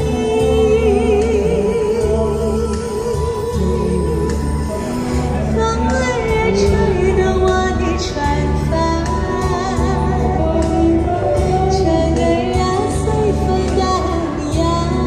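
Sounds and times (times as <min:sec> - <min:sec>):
pop backing track with bass beat: 0:00.0 - 0:15.0
woman singing: 0:00.0 - 0:15.0.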